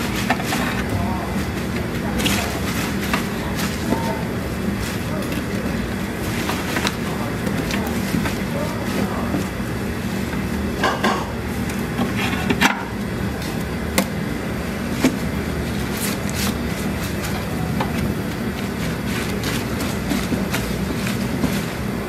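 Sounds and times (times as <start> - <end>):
steady low hum: 0.0 - 22.0
wet squishing of mixing: 0.0 - 22.0.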